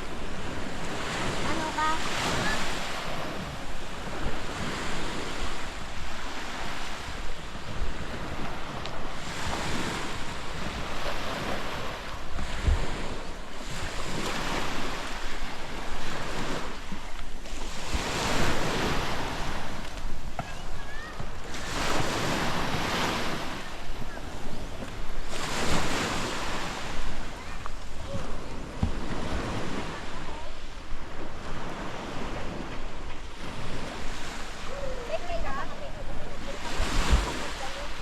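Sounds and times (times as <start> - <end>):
surf washing onto beach: 0.0 - 38.0
wind buffeting microphone: 0.0 - 38.0.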